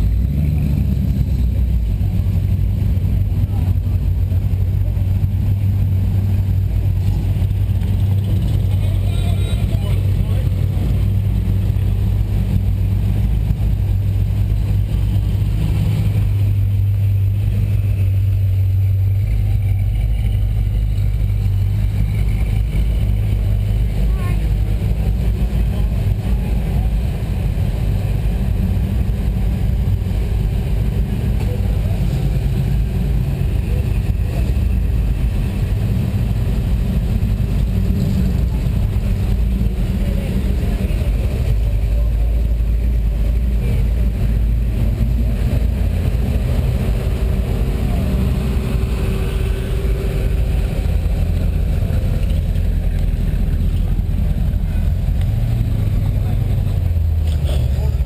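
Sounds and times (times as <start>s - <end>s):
car engines idling: 0.0s - 58.0s.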